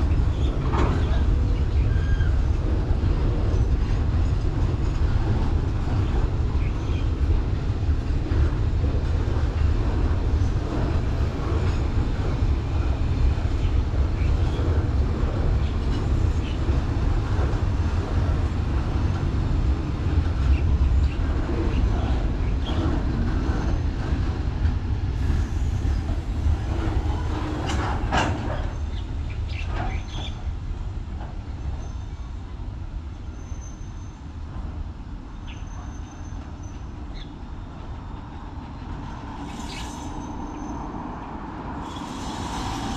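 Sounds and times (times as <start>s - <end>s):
freight train wagons rumbling: 0.0s - 42.9s.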